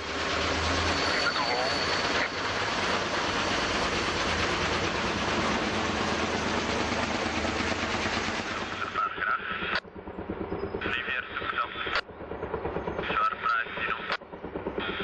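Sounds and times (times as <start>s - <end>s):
helicopter rotor chop: 0.0s - 15.0s.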